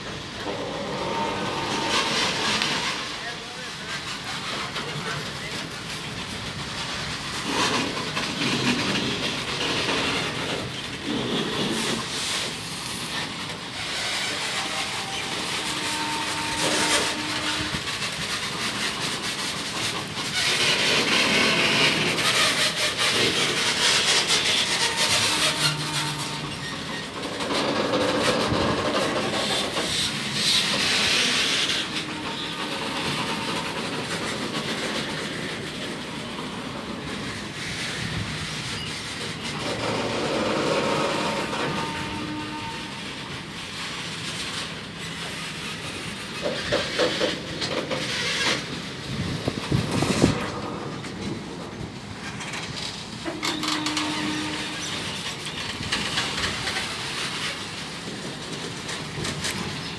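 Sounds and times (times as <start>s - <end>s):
freight train wheels clattering: 0.0s - 59.9s
train wheels squeaking: 0.0s - 59.9s.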